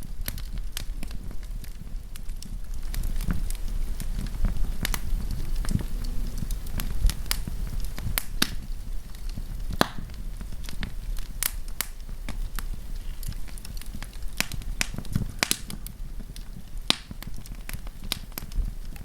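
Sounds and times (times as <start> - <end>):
campfire crackling: 0.0 - 19.0
fire pops and snaps: 0.0 - 19.0
low rumble of flame: 0.0 - 19.0.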